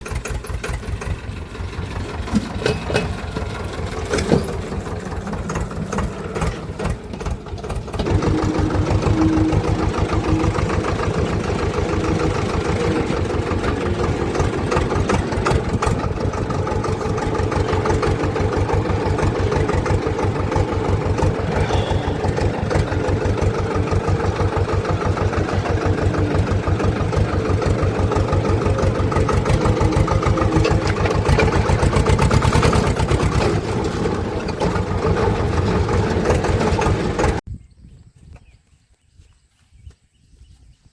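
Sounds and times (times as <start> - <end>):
tractor diesel engine running: 0.0 - 37.5.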